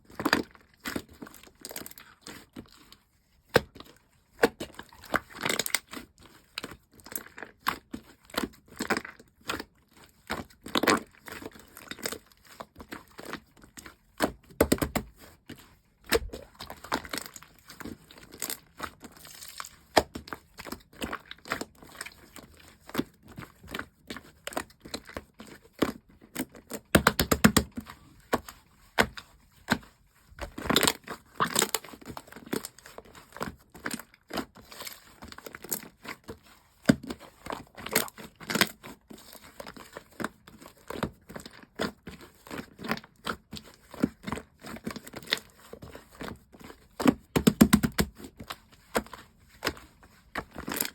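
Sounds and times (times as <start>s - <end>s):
slime squishing with sticky pops: 0.1s - 50.9s.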